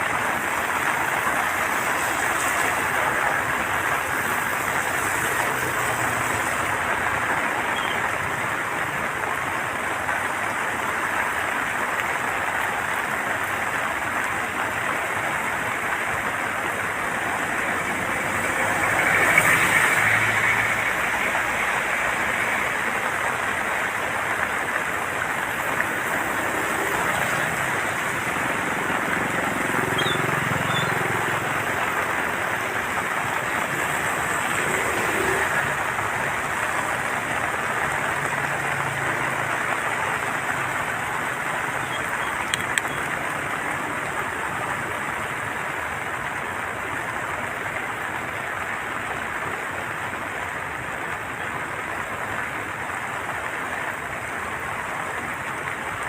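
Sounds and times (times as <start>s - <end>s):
water rushing through floodgates: 0.0s - 56.0s.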